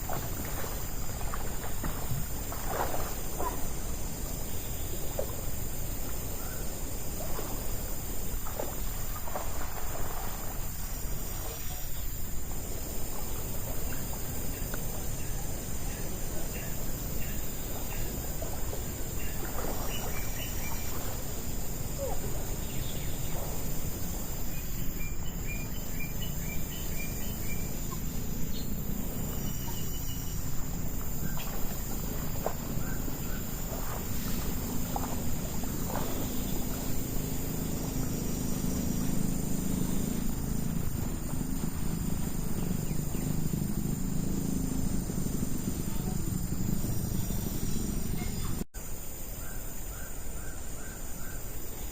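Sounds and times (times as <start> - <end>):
insects: 0.0 - 51.9
steady background hiss: 0.0 - 51.9.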